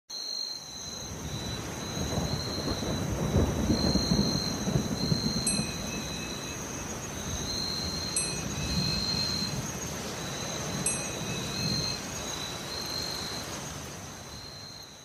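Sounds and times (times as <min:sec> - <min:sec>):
steady rain: 0:00.5 - 0:15.0
thunder rumbling: 0:01.0 - 0:13.5.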